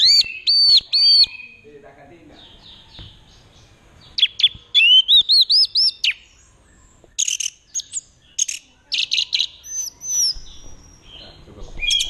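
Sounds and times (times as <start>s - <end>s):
thrush singing whistled notes: 0.0s - 1.8s, 2.4s - 12.0s.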